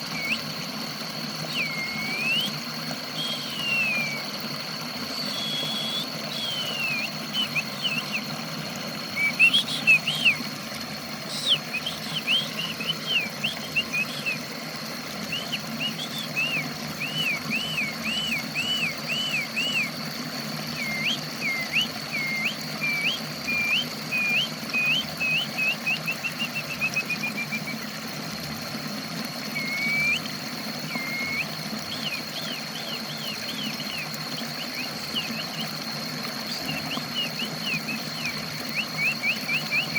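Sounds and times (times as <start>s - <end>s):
songbird singing: 0.0s - 28.0s, 29.4s - 39.9s
constant high-pitched tone: 0.0s - 39.9s
steady low hum: 0.0s - 39.9s.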